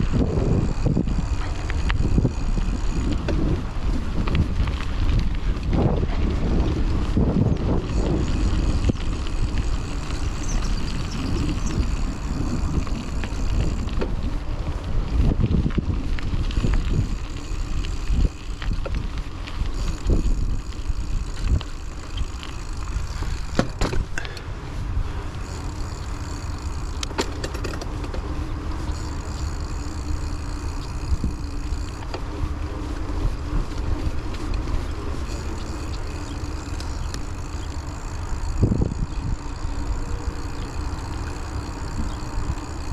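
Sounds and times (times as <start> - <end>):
bike rattling over bumps: 0.0 - 42.9
bike tyres rumbling on dirt: 0.0 - 42.9
wind on microphone: 0.0 - 42.9.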